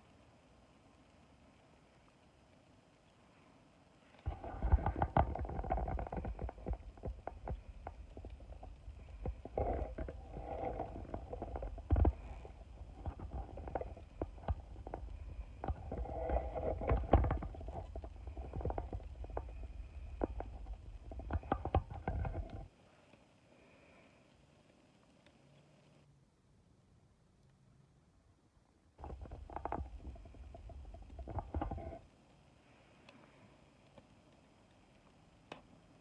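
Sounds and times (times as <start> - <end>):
wood fire crackling: 0.0 - 22.7, 29.0 - 36.0.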